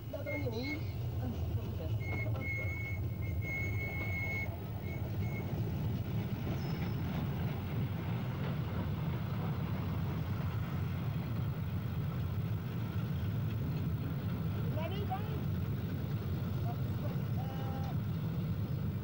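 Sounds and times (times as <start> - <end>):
tram rumbling on track: 0.0 - 19.0.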